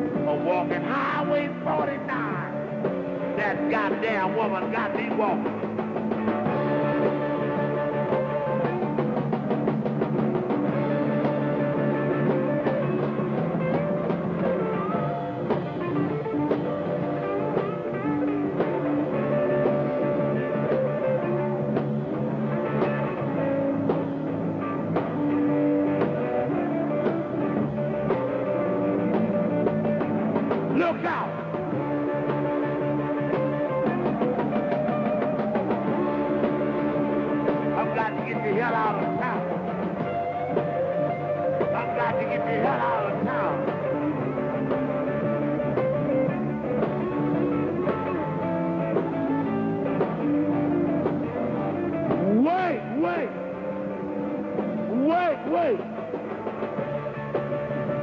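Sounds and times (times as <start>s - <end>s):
bass guitar: 0.0s - 58.0s
drum kit beat: 0.0s - 58.0s
electric guitar: 0.0s - 58.0s.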